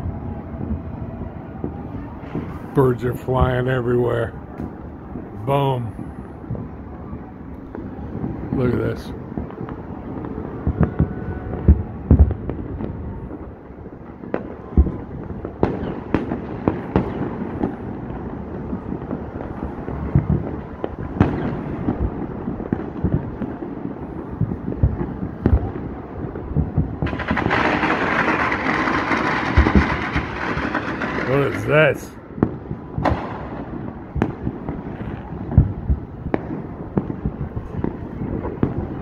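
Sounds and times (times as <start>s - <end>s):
distant fireworks popping: 0.0s - 39.0s
fireworks banging: 0.0s - 39.0s.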